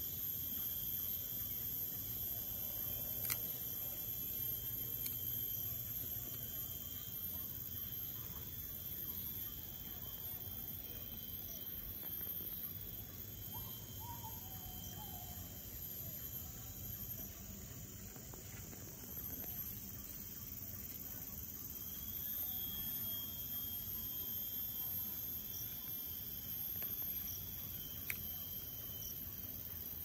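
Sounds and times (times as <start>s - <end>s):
insects chirring chorus: 0.0s - 30.0s.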